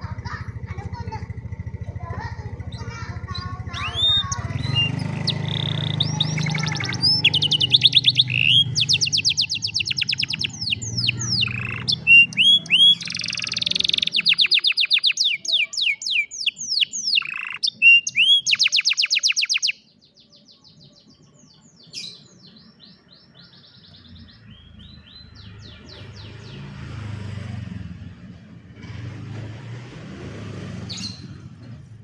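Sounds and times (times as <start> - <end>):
canary singing trills: 0.0 - 29.4, 30.7 - 32.0.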